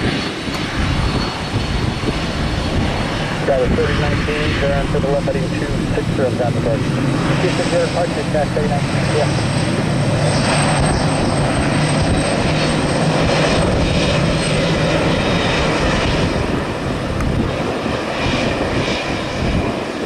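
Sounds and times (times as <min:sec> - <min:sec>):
jet engine rumble with whine: 0:00.0 - 0:20.0.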